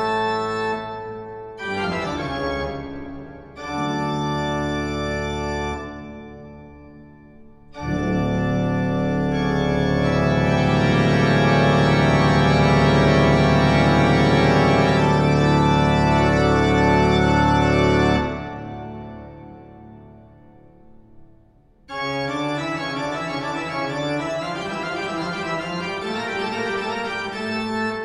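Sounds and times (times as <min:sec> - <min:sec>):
sustained organ chord: 0:00.0 - 0:28.0.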